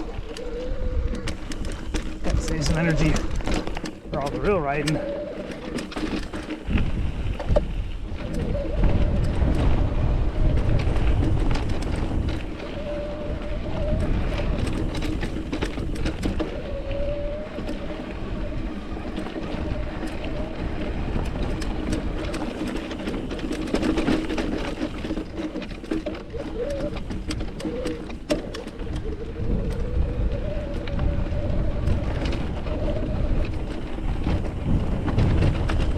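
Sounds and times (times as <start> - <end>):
bike clicks and rattles on rock: 0.0 - 35.9
wind buffeting microphone: 0.0 - 35.9.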